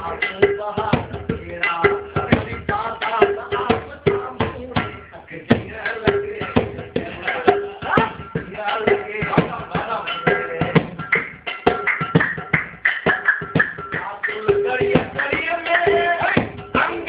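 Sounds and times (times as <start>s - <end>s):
men singing devotional song: 0.0s - 11.6s, 13.9s - 17.0s.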